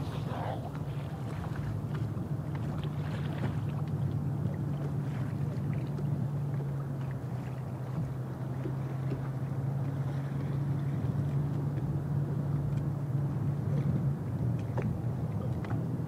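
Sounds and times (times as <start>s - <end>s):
boat motor humming: 0.0s - 16.0s
water noise: 0.0s - 16.0s
wind: 0.0s - 16.0s.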